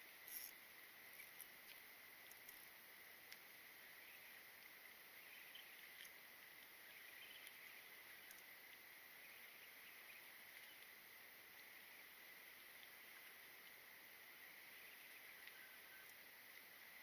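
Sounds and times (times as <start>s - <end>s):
faint steady hiss: 0.0s - 17.0s
faint ticks: 0.2s - 17.0s.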